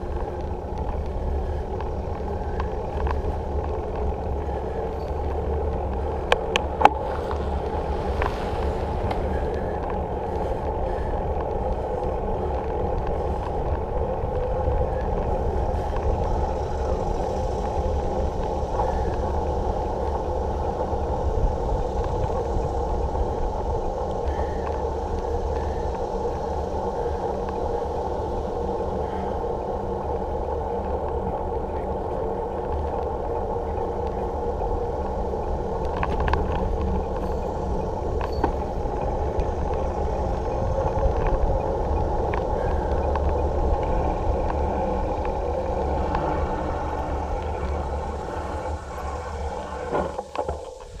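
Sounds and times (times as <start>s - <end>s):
wind and tyre rumble: 0.0s - 51.0s.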